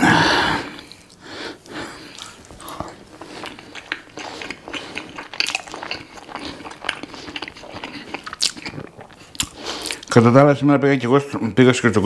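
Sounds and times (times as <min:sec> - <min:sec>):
man chewing food: 0:00.0 - 0:10.2.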